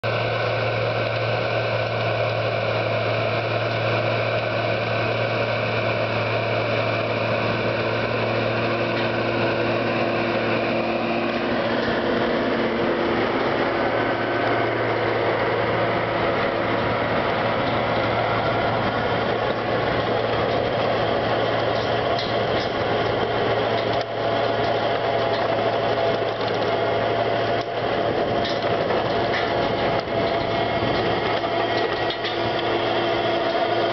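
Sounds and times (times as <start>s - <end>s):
harrow rotors churning soil: 0.0s - 33.9s
thin steady whine: 0.0s - 33.9s
tractor diesel engine under load: 0.0s - 33.9s.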